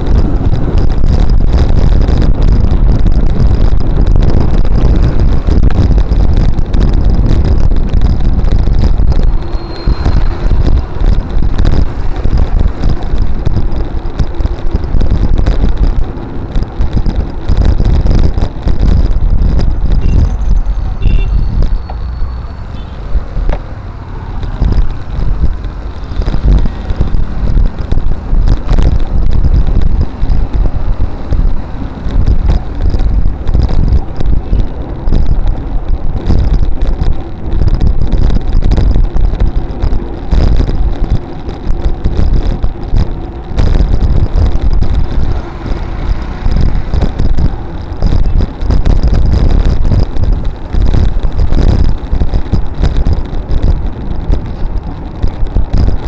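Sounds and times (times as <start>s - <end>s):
road traffic: 0.0s - 56.0s
wind buffeting microphone: 0.0s - 56.0s.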